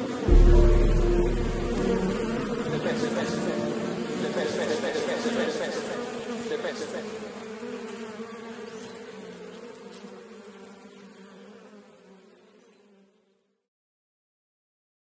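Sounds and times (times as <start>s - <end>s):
insects buzzing: 0.0s - 13.5s.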